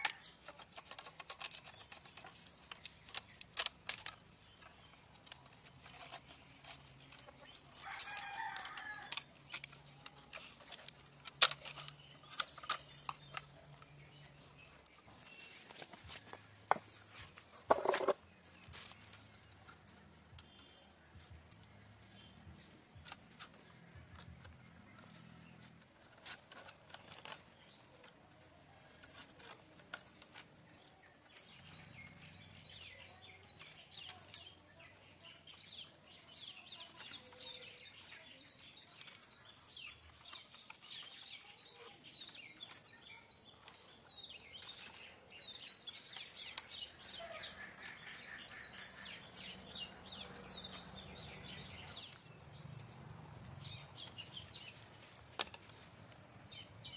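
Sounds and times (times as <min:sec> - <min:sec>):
bamboo strips clicking and tapping: 0:00.0 - 0:31.9, 0:32.9 - 0:56.8
small birds chirping: 0:00.0 - 0:56.9.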